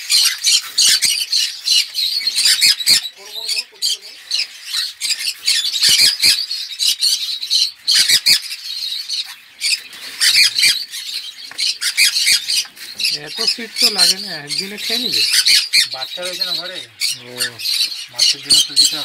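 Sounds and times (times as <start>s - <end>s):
birds squawking and chattering: 0.0s - 19.0s.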